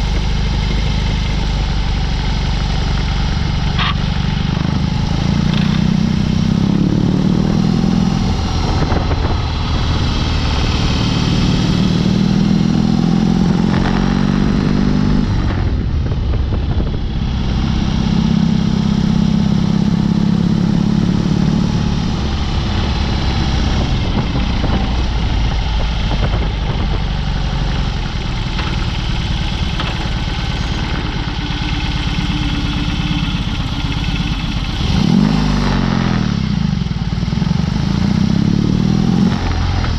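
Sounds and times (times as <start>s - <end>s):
motorcycle engine revving: 0.0s - 39.9s
road and wind noise: 0.0s - 39.9s.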